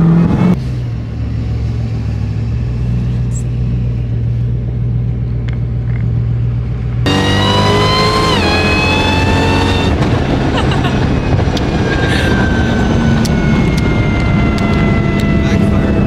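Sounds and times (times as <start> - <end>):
car engine drone from inside cabin: 0.0 - 16.0.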